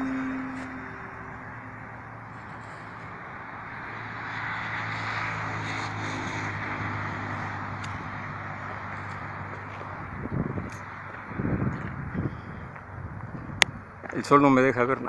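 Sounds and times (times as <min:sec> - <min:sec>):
electric motor and propeller: 0:00.0 - 0:12.3.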